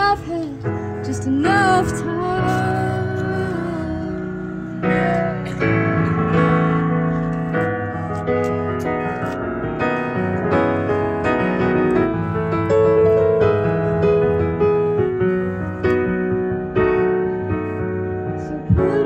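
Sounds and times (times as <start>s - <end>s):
digital piano chords: 0.0s - 19.0s.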